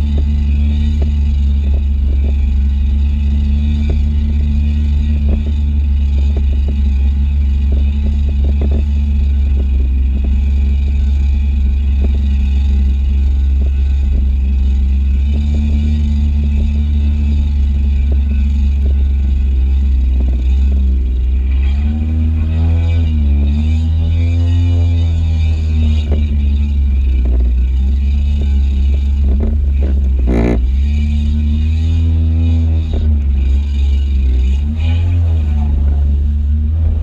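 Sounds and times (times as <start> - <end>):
jet ski engine running: 0.0 - 37.0.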